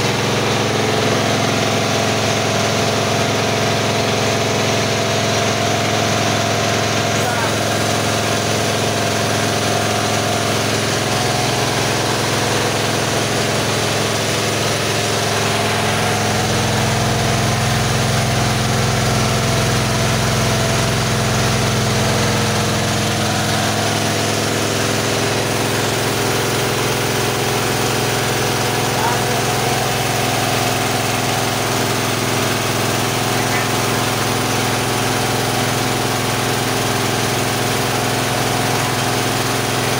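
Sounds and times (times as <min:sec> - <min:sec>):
machine engine hum: 0:00.0 - 0:39.9.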